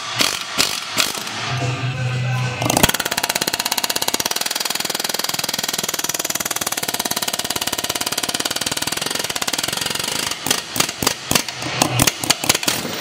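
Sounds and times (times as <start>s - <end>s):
impact wrench hammering: 0.0s - 1.7s, 2.6s - 13.0s.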